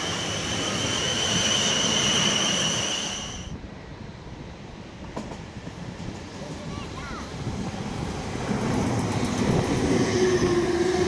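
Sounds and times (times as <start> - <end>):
electric train running past: 0.0 - 11.0
faint distant train: 0.0 - 11.0.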